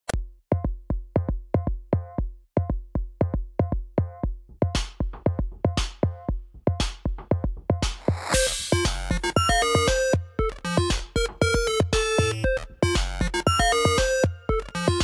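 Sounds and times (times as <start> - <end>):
electronic music with drum-machine beat: 0.1 - 15.0.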